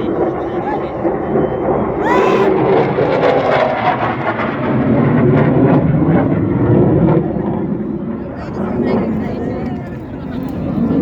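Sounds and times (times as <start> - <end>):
jet aircraft flying over: 0.0 - 11.0.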